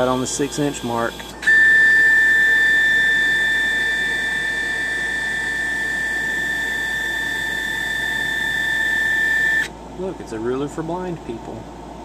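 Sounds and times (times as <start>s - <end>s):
stepper motors whining: 0.0s - 9.7s.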